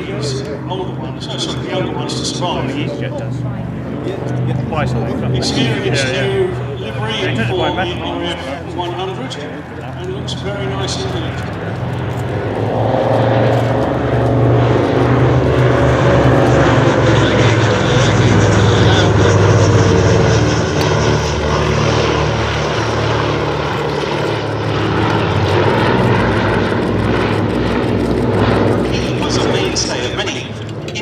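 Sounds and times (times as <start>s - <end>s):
propeller aircraft flying past: 0.0s - 31.0s.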